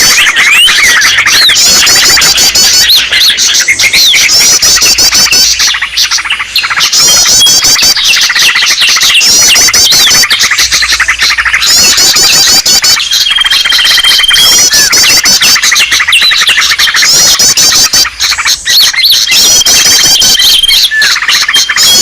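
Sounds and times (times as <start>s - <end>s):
rapid bird trill: 0.0s - 22.0s
small birds chirping: 0.0s - 22.0s.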